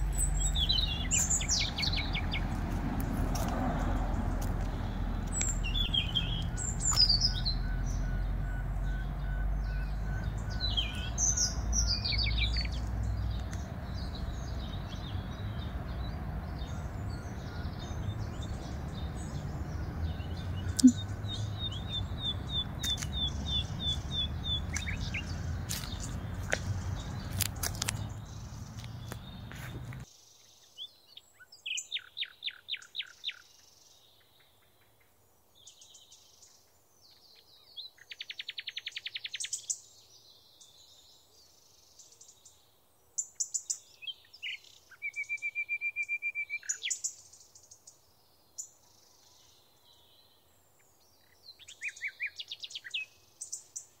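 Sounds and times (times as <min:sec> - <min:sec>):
outdoor background noise: 0:00.0 - 0:54.0
songbirds chirping and trilling: 0:00.0 - 0:54.0.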